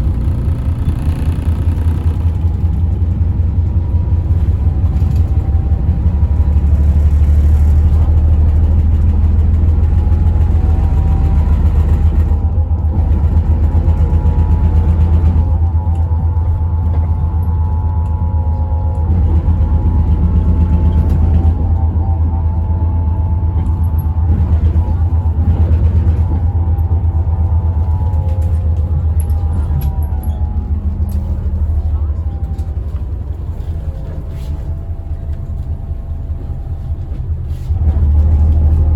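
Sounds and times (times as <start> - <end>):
coach engine and road drone: 0.0 - 38.9.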